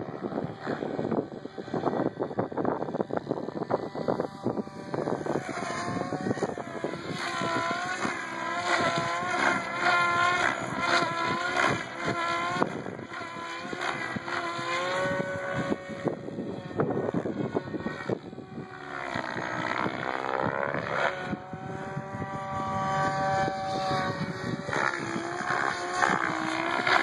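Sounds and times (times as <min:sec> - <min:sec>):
rc helicopter rotor whine: 0:00.0 - 0:27.0.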